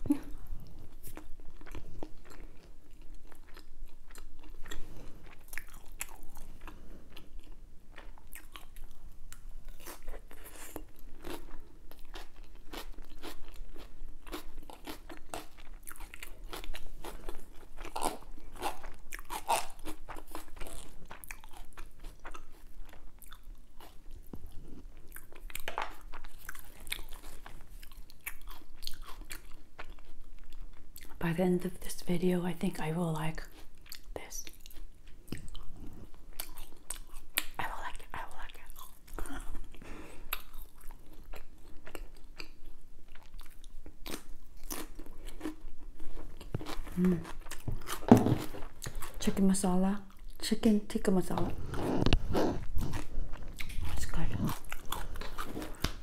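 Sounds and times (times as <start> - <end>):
person chewing crunchy food: 0.0 - 31.2, 33.4 - 49.3, 51.3 - 56.0.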